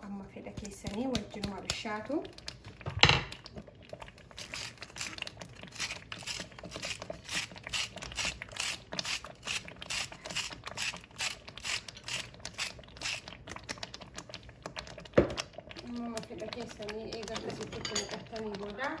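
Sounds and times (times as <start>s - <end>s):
thick stew bubbling in a pot: 0.0s - 19.0s.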